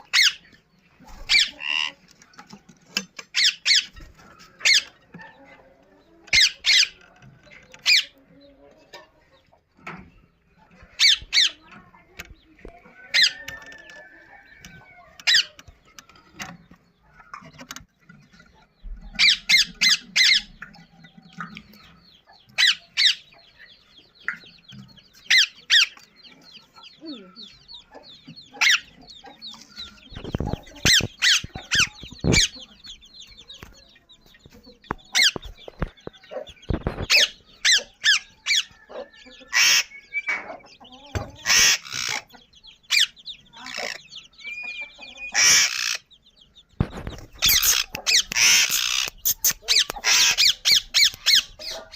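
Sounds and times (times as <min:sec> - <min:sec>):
birds calling sharply: 0:00.0 - 0:51.9
faint continuous peeping: 0:00.0 - 0:51.9.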